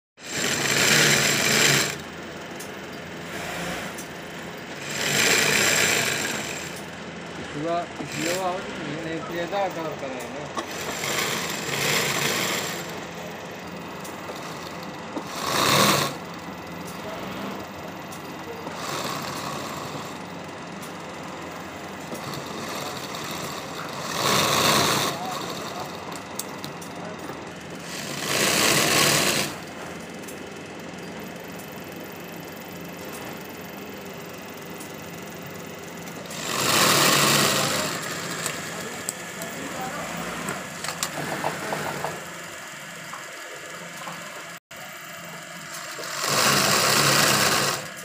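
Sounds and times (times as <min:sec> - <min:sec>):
sewing machine stitching: 0:00.2 - 0:30.2, 0:32.7 - 0:42.3, 0:45.6 - 0:48.0.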